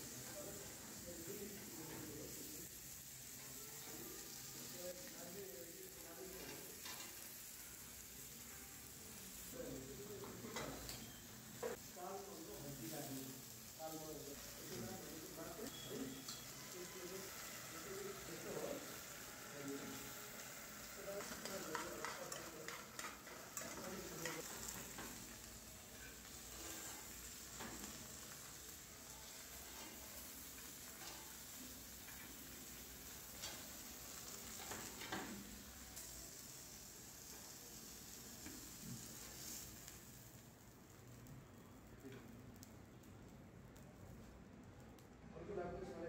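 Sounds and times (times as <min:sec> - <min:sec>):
food sizzling on grill pan: 0:00.0 - 0:45.0.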